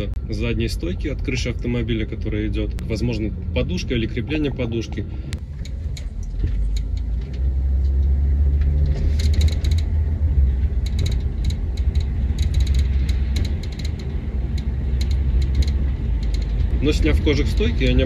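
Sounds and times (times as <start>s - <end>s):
tyre and road rumble: 0.0s - 18.0s.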